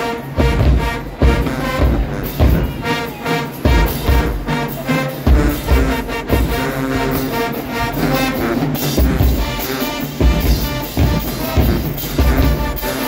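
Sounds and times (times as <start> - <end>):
brass section holding notes: 0.0 - 13.0.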